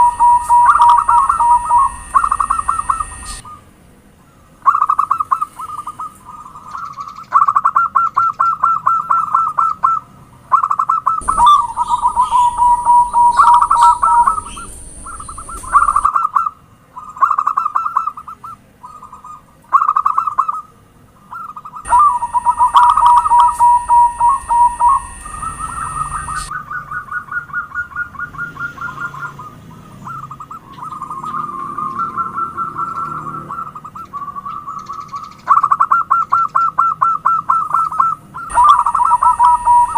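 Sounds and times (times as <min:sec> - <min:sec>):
doves cooing: 0:00.0 - 0:03.6, 0:04.7 - 0:16.2, 0:21.3 - 0:34.8, 0:35.5 - 0:39.9.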